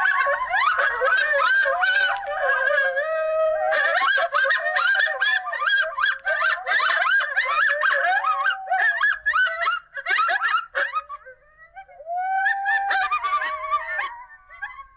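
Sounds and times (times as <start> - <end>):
coyote howling: 0.0 - 14.9
coyotes yipping: 0.0 - 14.9.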